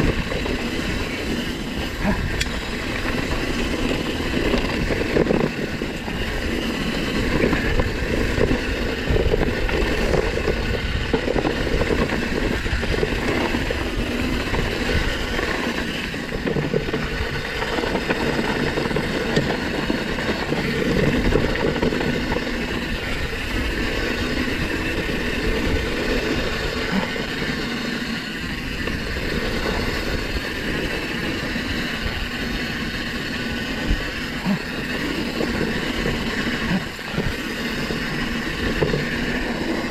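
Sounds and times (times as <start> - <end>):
bike clattering and rattling: 0.0 - 39.9.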